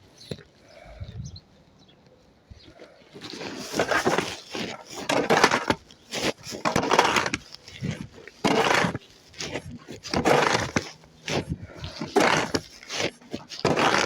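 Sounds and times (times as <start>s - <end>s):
crunching in snow: 2.6s - 14.0s.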